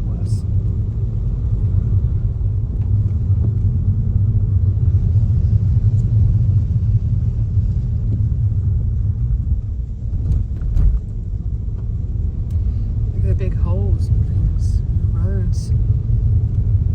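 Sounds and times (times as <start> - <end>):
car cabin road rumble: 0.0 - 16.9.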